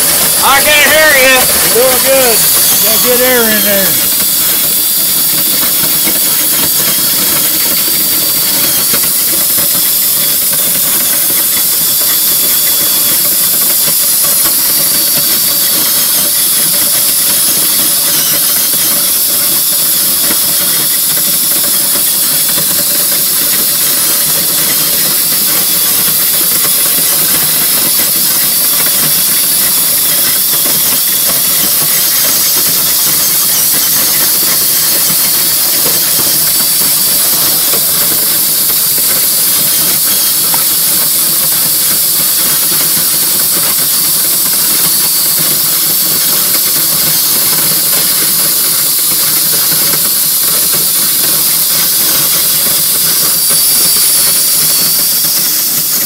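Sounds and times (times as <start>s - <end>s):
corn streaming from auger: 0.0s - 56.0s
power drill running: 0.0s - 56.0s.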